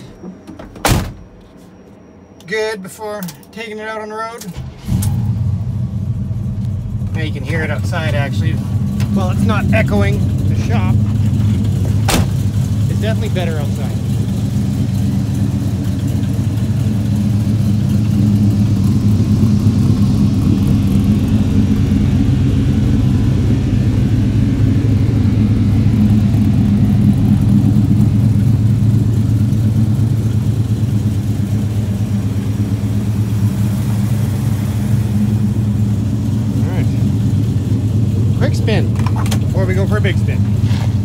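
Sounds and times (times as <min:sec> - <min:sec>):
truck engine idling: 0:00.0 - 0:41.0.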